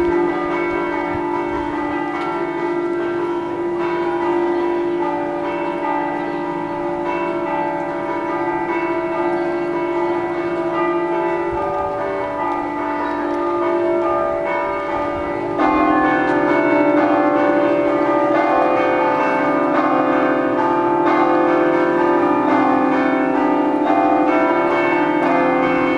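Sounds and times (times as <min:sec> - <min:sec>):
church bells ringing rhythmically: 0:00.0 - 0:25.9.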